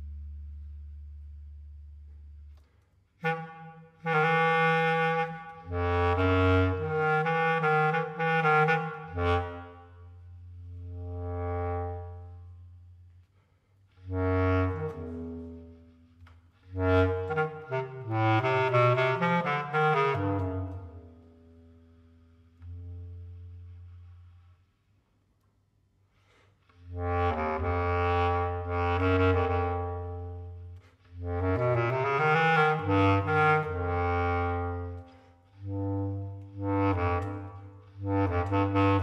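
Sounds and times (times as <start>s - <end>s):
bass clarinet playing: 0.0s - 24.9s, 26.2s - 39.0s.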